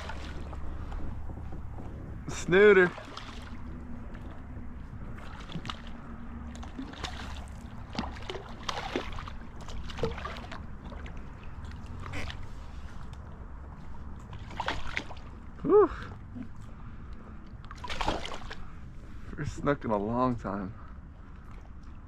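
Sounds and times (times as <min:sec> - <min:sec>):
small splashes: 0:00.0 - 0:13.2, 0:14.0 - 0:19.2
water sloshing against kayak: 0:00.0 - 0:19.5.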